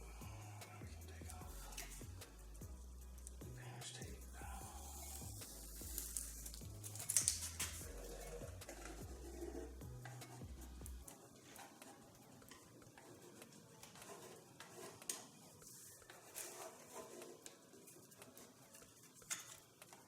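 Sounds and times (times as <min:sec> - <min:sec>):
light handling ticks: 0:03.2 - 0:20.0
soft rubbing: 0:03.2 - 0:20.0.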